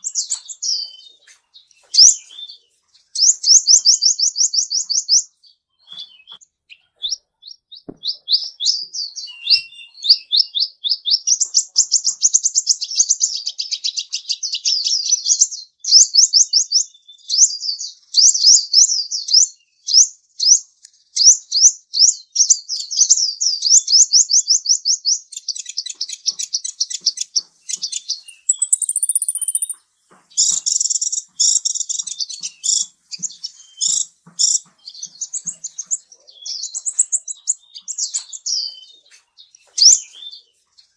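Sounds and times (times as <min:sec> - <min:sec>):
small bird singing rapid chirps: 0:00.0 - 0:40.9.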